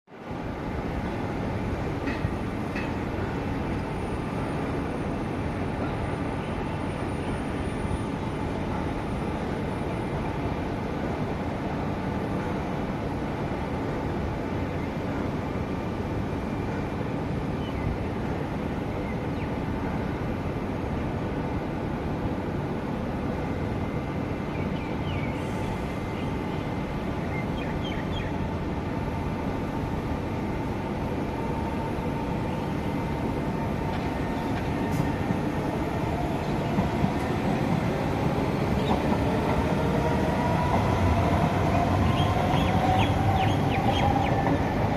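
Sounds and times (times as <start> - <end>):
metro train rumbling: 0.1 - 44.9.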